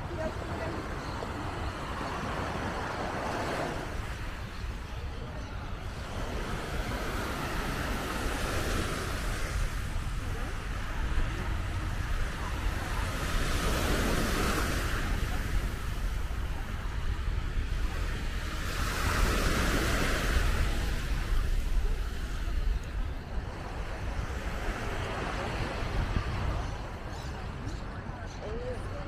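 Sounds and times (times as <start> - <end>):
sea waves breaking: 0.0 - 29.0
wind rumble on microphone: 0.0 - 29.0.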